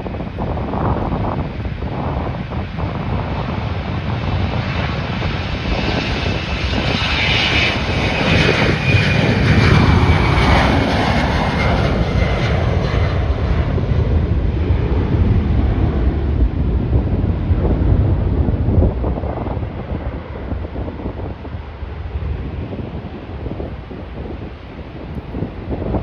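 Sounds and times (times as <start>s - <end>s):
airliner engine passing: 0.0s - 26.0s
wind buffeting microphone: 0.0s - 26.0s.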